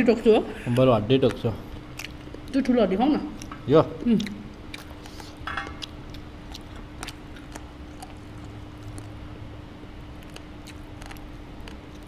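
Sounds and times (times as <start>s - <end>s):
steady low hum: 0.0s - 12.0s
person chewing: 0.7s - 2.6s, 3.4s - 9.4s, 10.0s - 12.0s.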